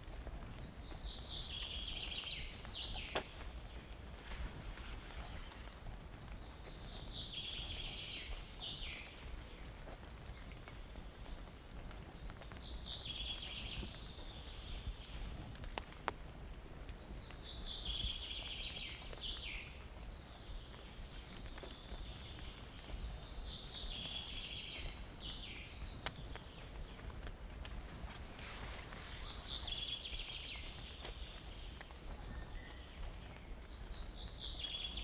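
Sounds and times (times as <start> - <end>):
songbird singing: 0.0 - 16.0, 16.7 - 35.0
background hiss and low rumble: 0.0 - 35.0.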